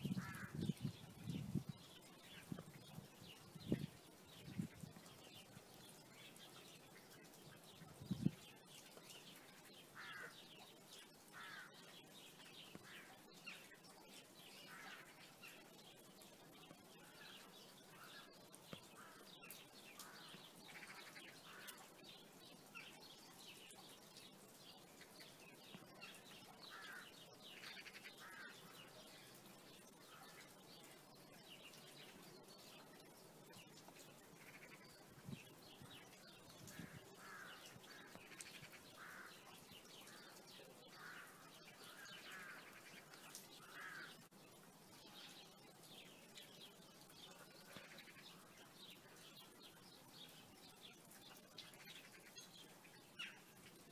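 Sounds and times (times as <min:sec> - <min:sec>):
low background hiss: 0:00.0 - 0:53.9
birds chirping: 0:00.2 - 0:53.9.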